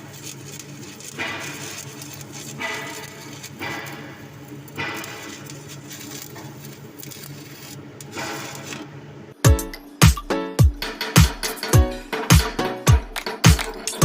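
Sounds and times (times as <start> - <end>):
welding arc crackling and hissing: 0.0 - 8.8, 9.6 - 14.0.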